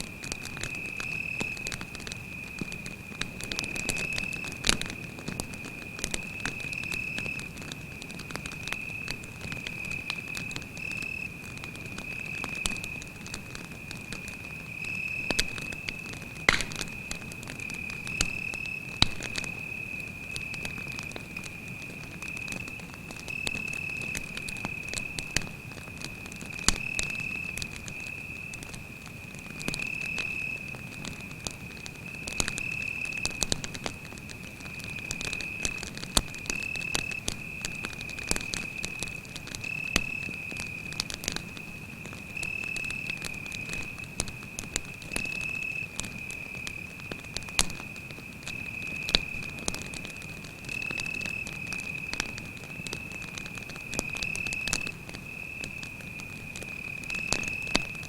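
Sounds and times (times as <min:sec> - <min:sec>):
campfire crackling and popping: 0:00.0 - 0:58.0
cricket trilling: 0:00.3 - 0:28.8, 0:29.4 - 0:58.0.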